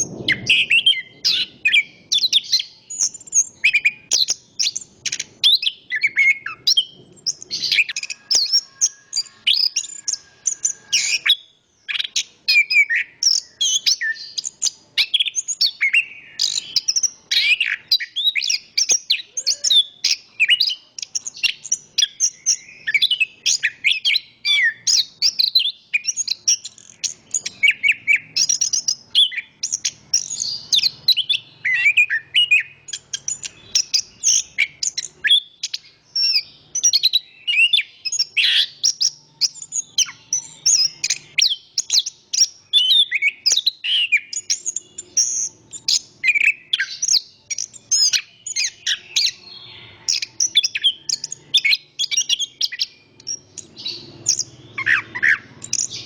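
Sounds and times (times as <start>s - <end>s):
thrush singing chirps and trills: 0.0s - 56.0s.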